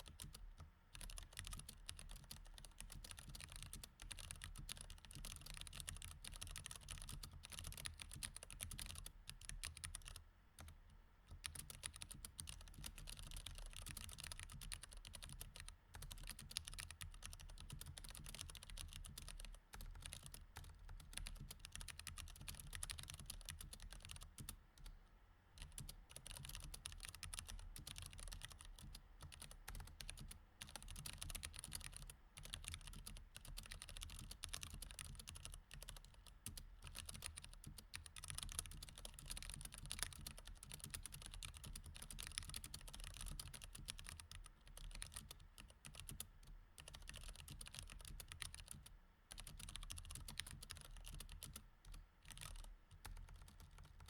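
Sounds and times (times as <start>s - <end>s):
mechanical keyboard typing: 0.1s - 0.4s, 1.0s - 10.7s, 11.3s - 24.9s, 25.6s - 54.0s.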